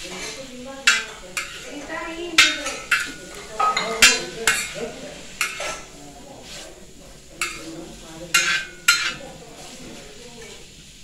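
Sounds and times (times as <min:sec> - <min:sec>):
metal spoon scraping steel pan: 0:00.0 - 0:10.0
food sizzling lightly: 0:00.0 - 0:11.0.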